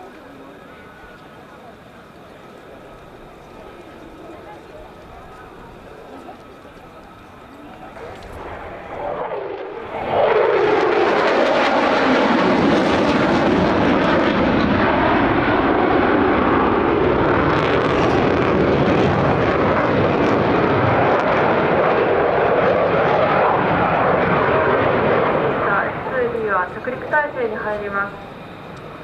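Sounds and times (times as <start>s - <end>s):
jet fighter passing: 0.0s - 29.0s.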